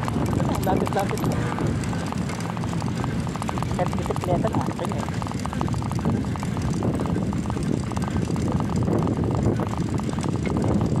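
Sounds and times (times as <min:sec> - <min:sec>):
bicycle rattling over paving stones: 0:00.0 - 0:11.0
wind rushing over microphone: 0:00.0 - 0:11.0.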